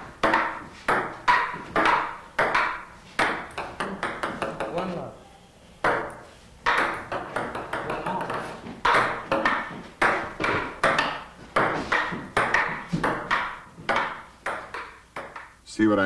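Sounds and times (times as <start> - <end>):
ping-pong ball bouncing on table: 0.0 - 4.9, 5.8 - 15.6
ping-pong ball hitting paddles: 0.0 - 5.0, 5.8 - 15.6.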